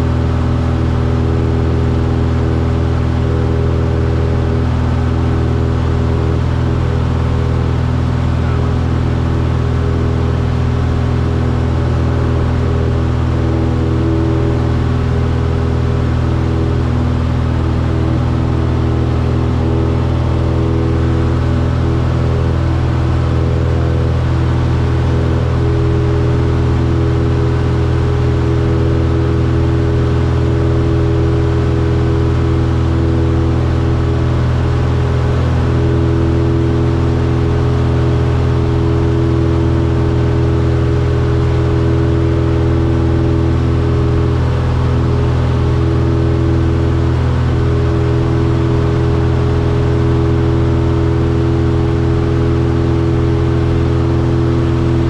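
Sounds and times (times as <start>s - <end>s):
aircraft engine drone in cabin: 0.0s - 55.0s.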